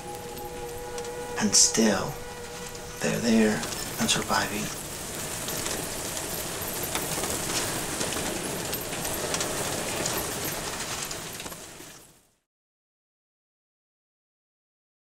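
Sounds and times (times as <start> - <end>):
bats fluttering: 0.0 - 12.4.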